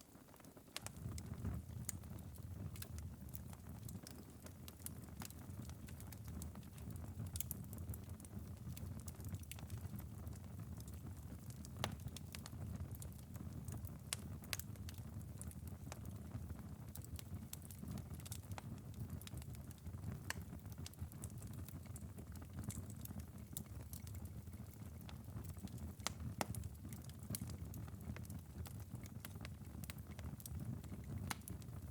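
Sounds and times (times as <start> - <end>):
wood fire embers crackling: 0.0 - 31.9.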